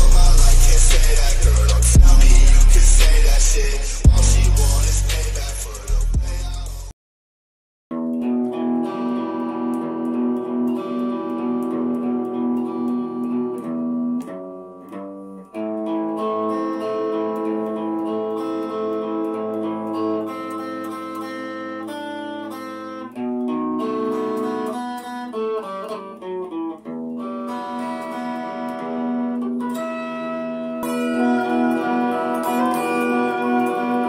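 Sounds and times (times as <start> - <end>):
plucked guitar melody: 0.0 - 6.8, 7.9 - 34.0.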